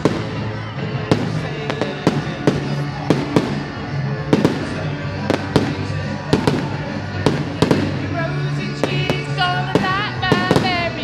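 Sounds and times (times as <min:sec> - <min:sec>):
background music: 0:00.0 - 0:11.0
fireworks bangs: 0:00.0 - 0:11.0.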